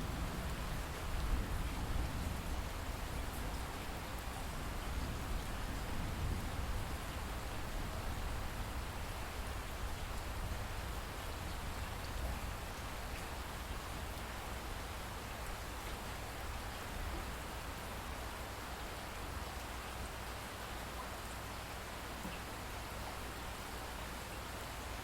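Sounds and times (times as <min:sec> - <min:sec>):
light rain: 0:00.0 - 0:25.0.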